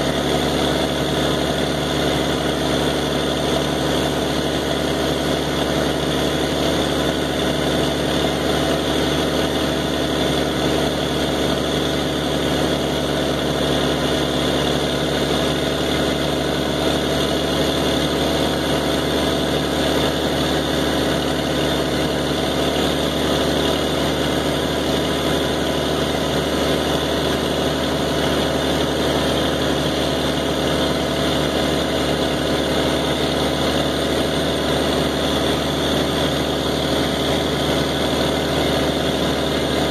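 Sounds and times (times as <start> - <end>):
engine-driven pump droning: 0.0 - 39.9.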